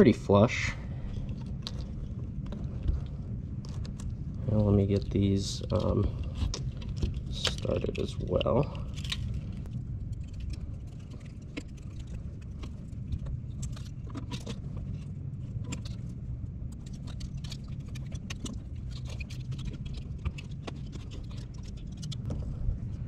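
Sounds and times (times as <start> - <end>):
low background hum: 0.0 - 23.0.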